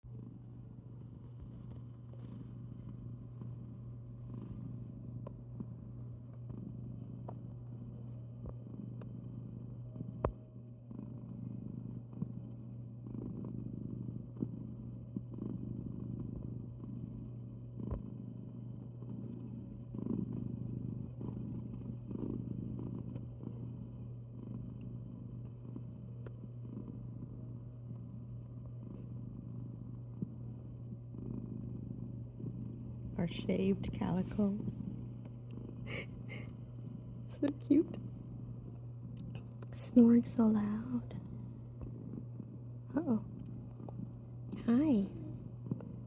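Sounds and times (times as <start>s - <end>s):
steady low hum: 0.0s - 46.0s
cat snoring: 1.2s - 28.2s, 28.8s - 46.0s.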